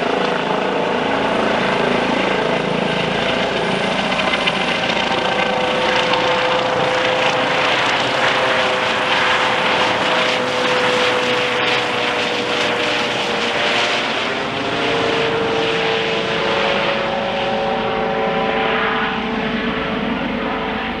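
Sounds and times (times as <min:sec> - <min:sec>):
helicopter rotor noise: 0:00.0 - 0:21.0
helicopter turbine whine: 0:00.0 - 0:21.0.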